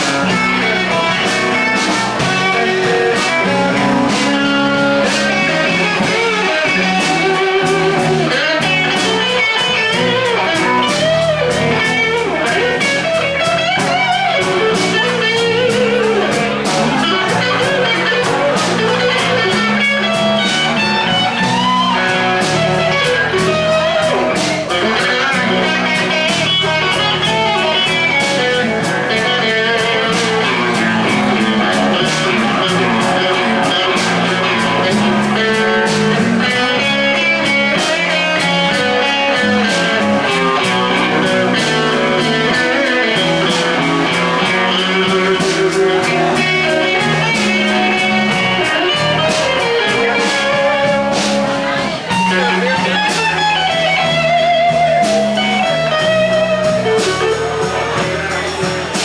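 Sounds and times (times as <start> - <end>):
band playing slow blues: 0.0 - 59.0
electric guitar lead: 0.0 - 59.0.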